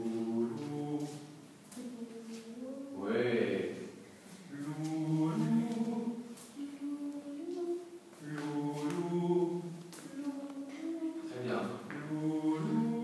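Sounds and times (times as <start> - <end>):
group singing a cappella: 0.0 - 13.0.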